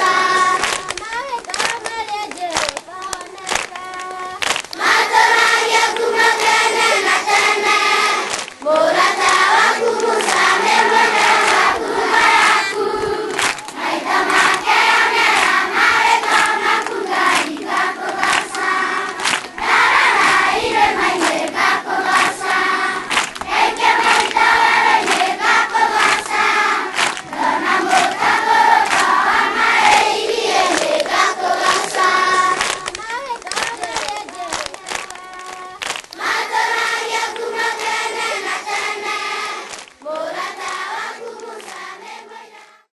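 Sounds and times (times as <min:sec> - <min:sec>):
choir singing: 0:00.0 - 0:02.4, 0:03.3 - 0:42.9.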